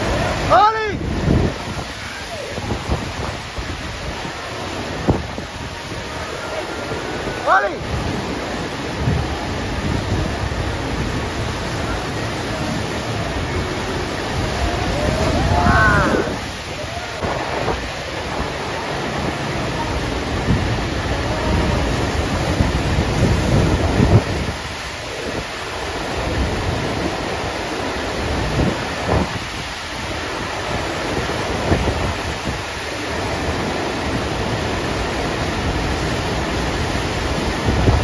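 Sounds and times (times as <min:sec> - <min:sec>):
water rushing: 0:00.0 - 0:38.0
wind rumble on microphone: 0:00.0 - 0:38.0.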